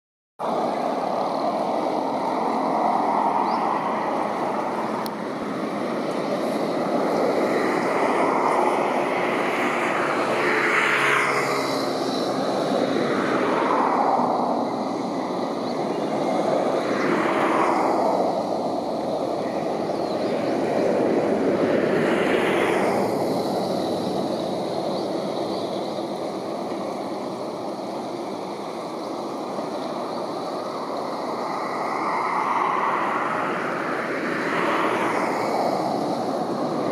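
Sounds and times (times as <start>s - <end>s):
vehicles passing: 0.4s - 36.9s.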